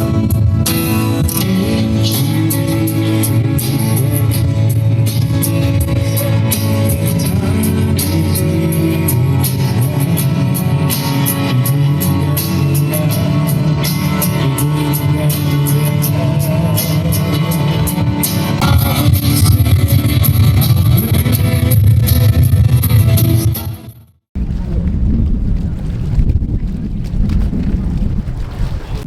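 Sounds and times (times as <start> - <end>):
person singing: 0.0 - 23.8
worship music with guitar and drums: 0.0 - 24.0.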